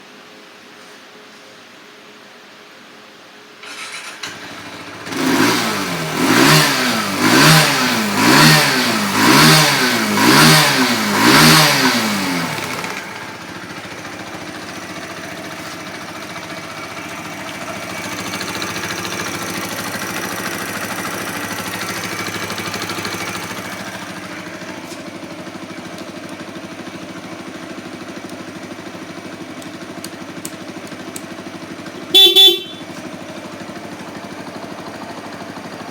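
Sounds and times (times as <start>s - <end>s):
motorcycle engine revving: 3.6s - 35.9s
motorcycle engine starting: 3.6s - 35.9s
motorcycle engine idling: 3.7s - 35.9s.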